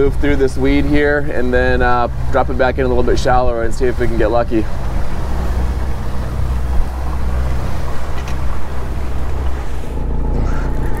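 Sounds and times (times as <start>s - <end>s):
boat engine hum: 0.0s - 11.0s
water noise: 0.0s - 11.0s
wind: 0.0s - 11.0s.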